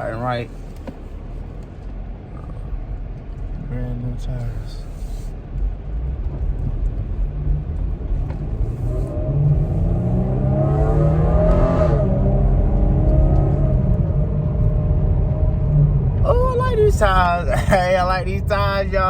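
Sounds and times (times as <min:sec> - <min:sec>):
car engine accelerating: 0:00.0 - 0:19.0
road rumble inside car: 0:00.0 - 0:19.0.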